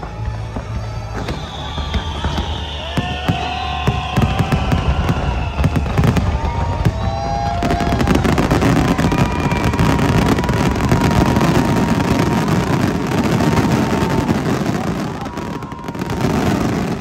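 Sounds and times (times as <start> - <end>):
fireworks crackling: 0.0 - 17.0
firework whistle: 0.1 - 17.0.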